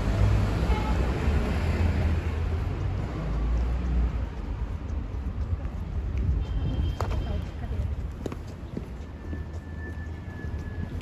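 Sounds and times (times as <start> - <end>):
city street rumble: 0.0 - 11.0.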